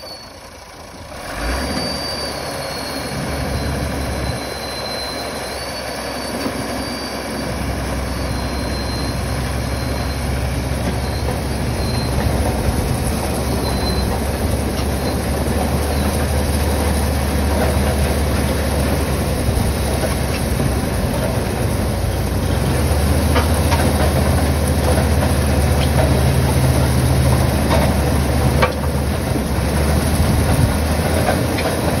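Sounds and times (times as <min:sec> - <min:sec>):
drilling rig engine hum: 0:00.0 - 0:32.0.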